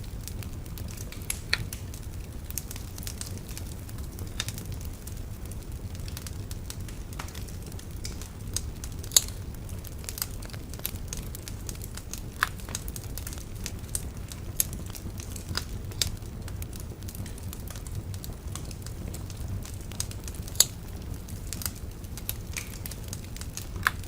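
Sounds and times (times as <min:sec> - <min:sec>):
bonfire crackling and popping: 0:00.0 - 0:24.0.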